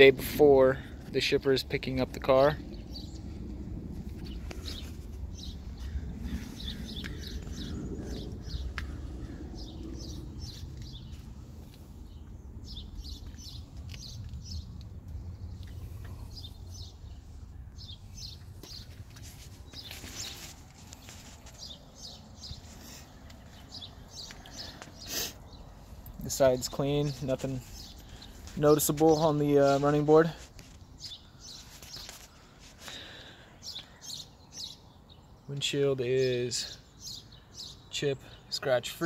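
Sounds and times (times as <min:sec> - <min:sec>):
low outdoor rumble: 0:00.0 - 0:31.4
small birds chirping: 0:00.0 - 0:39.0.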